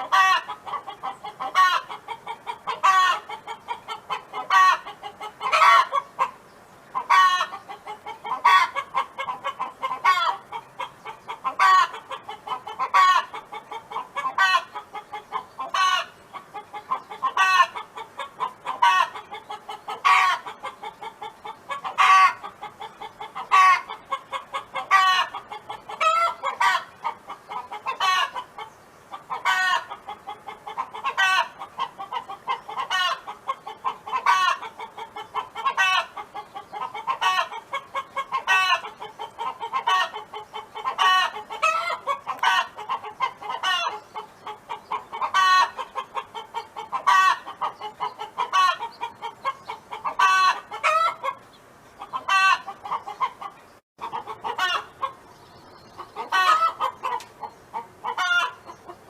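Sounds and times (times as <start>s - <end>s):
hen clucking: 0.0s - 59.0s.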